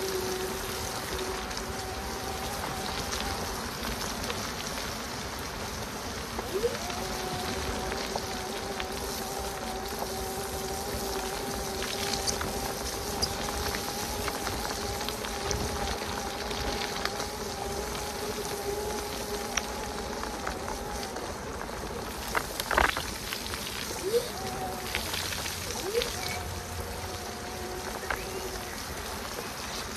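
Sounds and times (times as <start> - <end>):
e-bike motor whining: 0.0 - 29.9
rain hissing: 0.0 - 29.9
raindrop ticks: 0.0 - 29.9.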